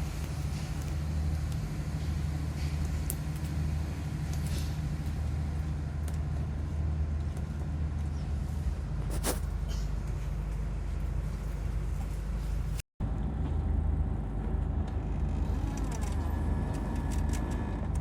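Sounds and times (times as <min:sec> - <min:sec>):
train coach low drone: 0:00.0 - 0:18.0.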